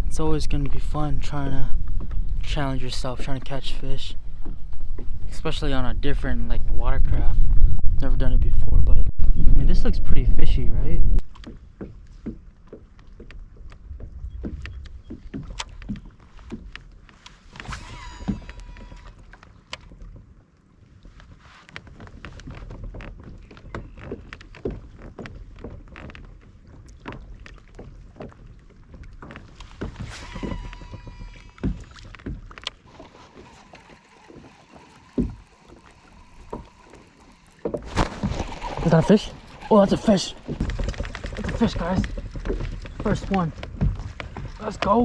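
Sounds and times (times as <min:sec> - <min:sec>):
light knocks and clicks from kayak: 0:00.5 - 0:05.4, 0:11.1 - 0:45.0.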